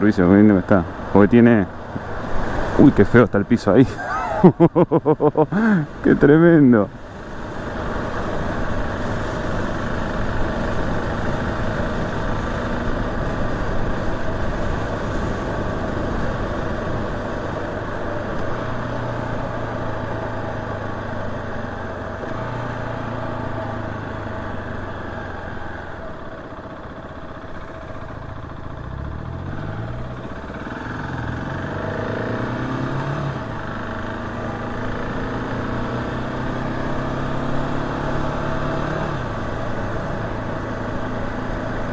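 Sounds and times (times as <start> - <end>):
motorcycle engine revving: 7.4 - 41.9.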